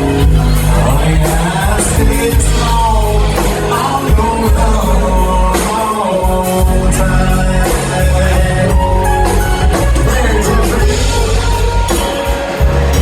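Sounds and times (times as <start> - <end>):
band playing with singer: 0.0 - 13.0.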